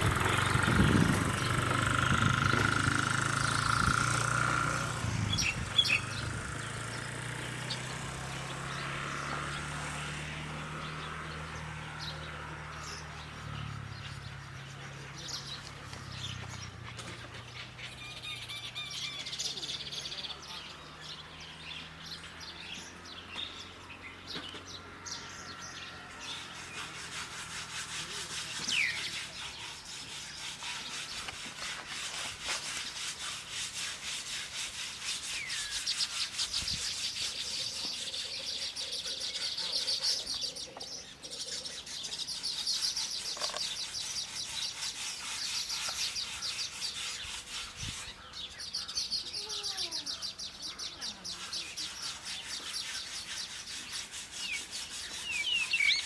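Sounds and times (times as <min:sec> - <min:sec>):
small birds twittering: 0:00.0 - 0:56.0.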